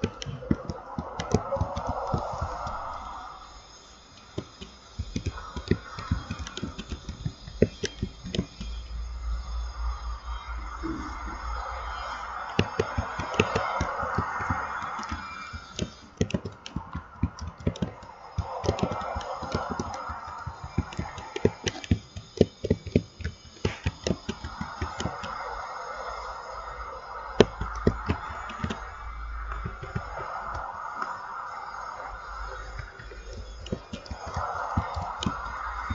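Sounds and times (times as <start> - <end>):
sharp irregular clicks and taps: 0.0 - 8.9, 12.0 - 26.4, 27.3 - 31.1, 32.5 - 35.9.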